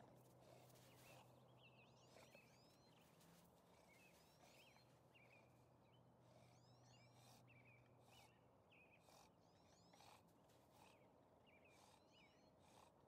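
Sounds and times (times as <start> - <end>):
faint low hum: 0.0 - 13.0
bird song: 0.6 - 12.8.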